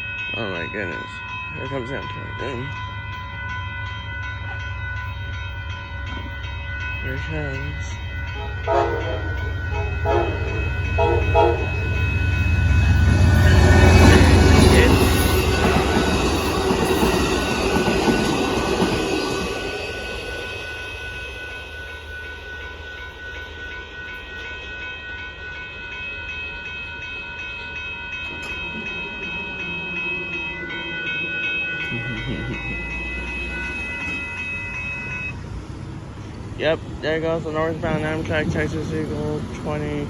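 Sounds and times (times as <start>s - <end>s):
crossing warning bells ringing: 0.0s - 40.0s
passenger train passing: 0.0s - 40.0s.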